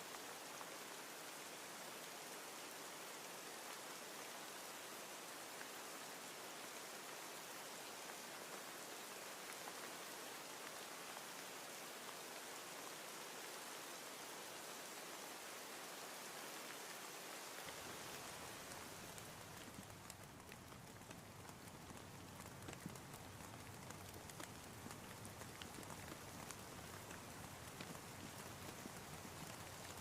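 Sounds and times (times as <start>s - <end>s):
faint rain hiss: 0.0s - 30.0s.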